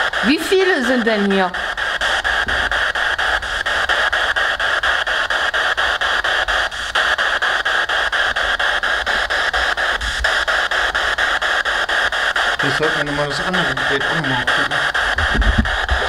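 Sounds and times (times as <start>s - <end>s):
choppy radio static: 0.0s - 16.0s.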